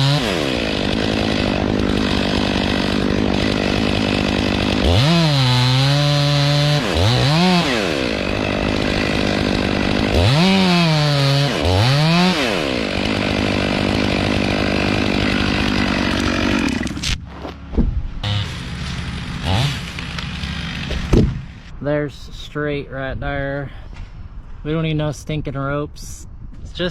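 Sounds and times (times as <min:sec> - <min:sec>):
chainsaw cutting wood: 0:00.0 - 0:21.7.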